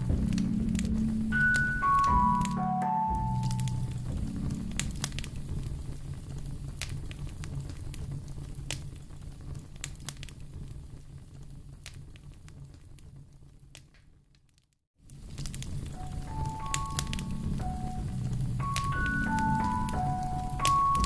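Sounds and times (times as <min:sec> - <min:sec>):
low steady rumble: 0:00.0 - 0:13.8, 0:15.1 - 0:21.0
wood fire crackling and popping: 0:00.0 - 0:21.0.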